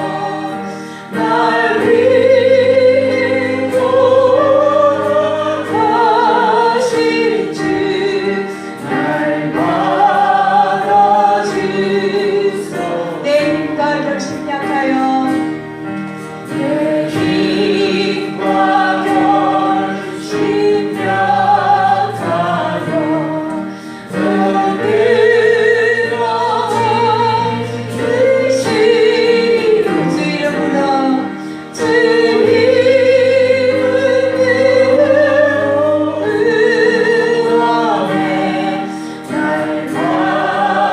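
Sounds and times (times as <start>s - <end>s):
group singing a hymn: 0.0s - 40.9s
held instrumental notes: 0.0s - 40.9s.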